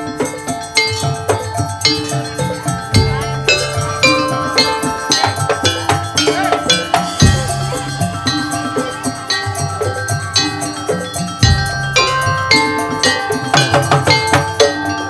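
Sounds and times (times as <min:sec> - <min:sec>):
percussion ensemble with slit drums: 0:00.0 - 0:15.0.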